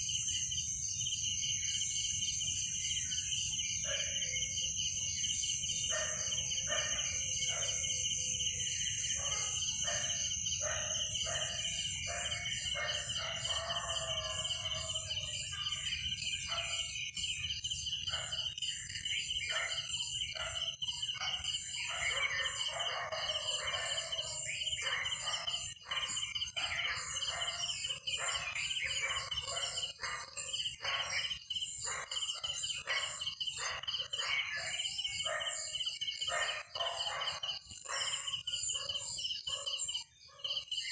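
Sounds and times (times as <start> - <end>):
birds calling and chirping: 0.0 - 40.9
high-pitched insect chorus: 0.0 - 40.9.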